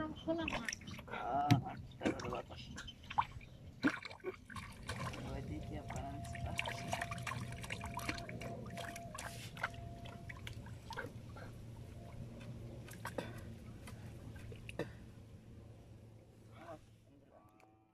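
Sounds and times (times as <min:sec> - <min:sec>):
water splashing from wading: 0:00.2 - 0:15.0.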